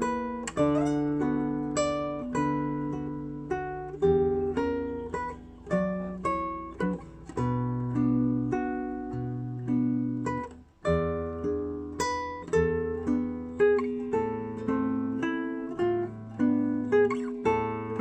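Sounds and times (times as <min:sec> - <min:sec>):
acoustic guitar plucked melody: 0:00.0 - 0:18.0.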